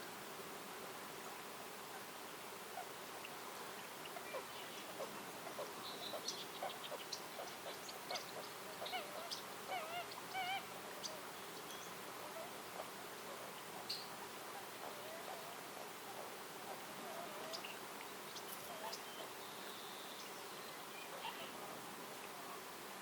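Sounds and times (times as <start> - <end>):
steady background hiss: 0.0 - 23.0
wavering nasal bird calls: 2.7 - 22.7
birds chirping: 2.8 - 22.7.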